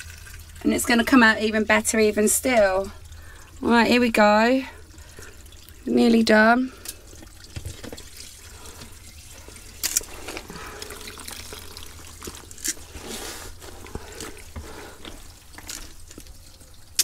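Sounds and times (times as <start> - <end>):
water trickling and dripping: 0.0 - 17.0
small water splashes: 2.5 - 17.0.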